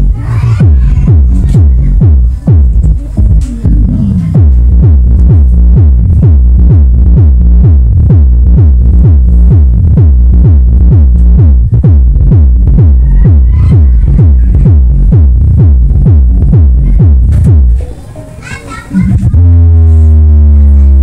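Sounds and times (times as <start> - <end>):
electronic dance music heavy kick drum: 0.0 - 17.8, 18.9 - 21.0.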